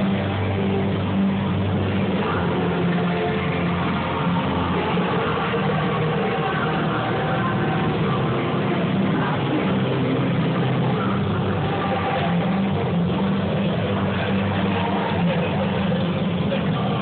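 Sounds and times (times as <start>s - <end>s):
muffled arena din: 0.0s - 17.0s.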